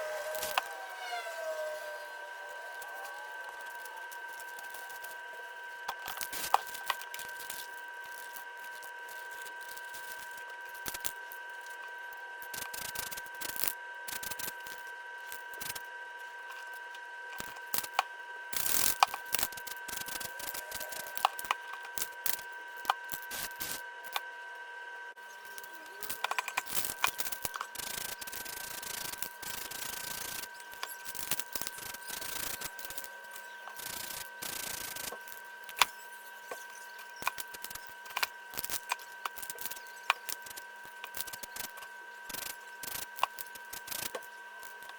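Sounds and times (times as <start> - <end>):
high-pitched hum: 0.0 - 44.9.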